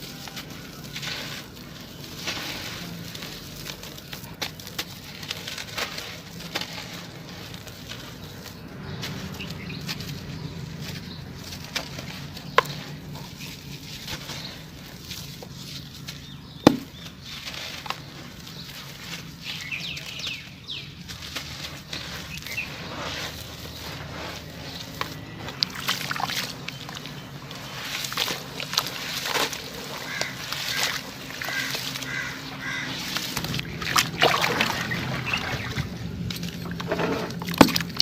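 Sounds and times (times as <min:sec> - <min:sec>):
cement chunks crumbling: 0:00.0 - 0:38.0.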